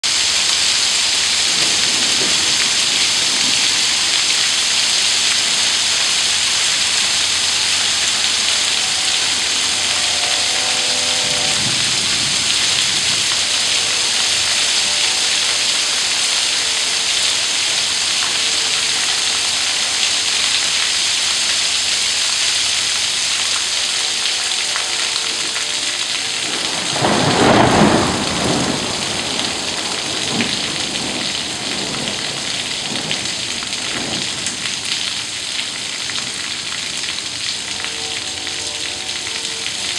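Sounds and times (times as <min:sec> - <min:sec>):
heavy rain and hail: 0:00.0 - 0:39.9
thunder rumbling: 0:00.6 - 0:21.6, 0:24.1 - 0:39.9.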